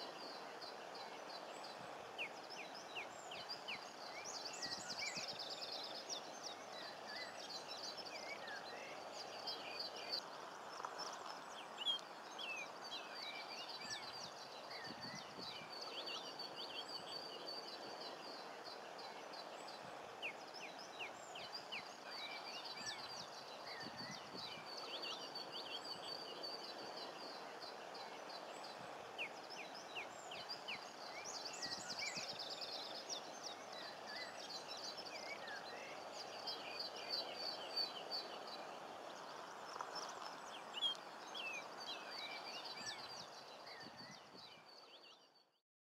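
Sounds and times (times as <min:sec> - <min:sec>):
steady background hiss: 0:00.0 - 0:45.4
birds twittering and trilling: 0:00.0 - 0:45.5.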